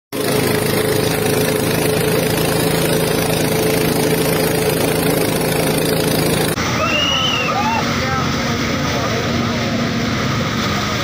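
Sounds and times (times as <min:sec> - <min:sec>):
diesel tractor engine running: 0:00.1 - 0:11.0
wheels splashing water: 0:00.2 - 0:11.0.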